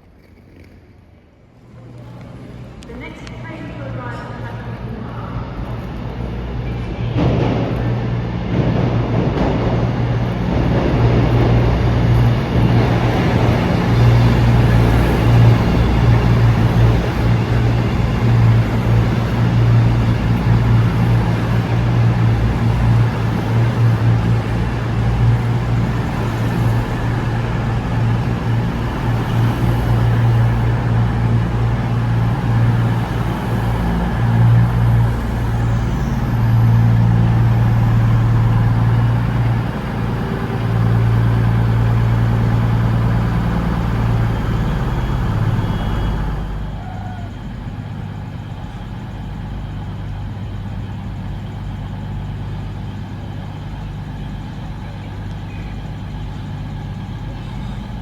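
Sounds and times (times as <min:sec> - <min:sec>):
diesel train engine drone: 0:00.0 - 0:58.0.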